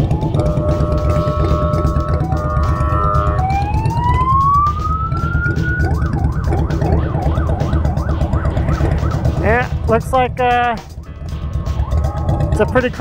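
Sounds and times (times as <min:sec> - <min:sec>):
motorcycle and road rumble: 0:00.0 - 0:13.0
police siren wailing and warbling: 0:00.0 - 0:13.0.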